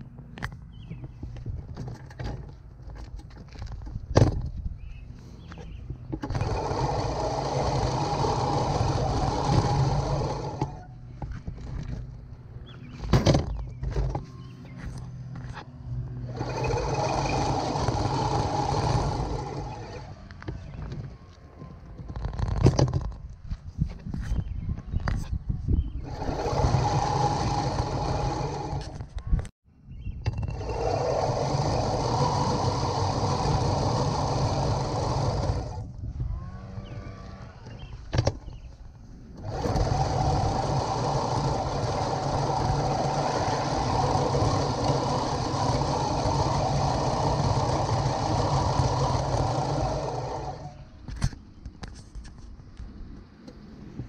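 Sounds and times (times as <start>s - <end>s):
reel mower blades whirring: 0.0s - 23.3s, 25.9s - 29.5s, 30.2s - 52.5s.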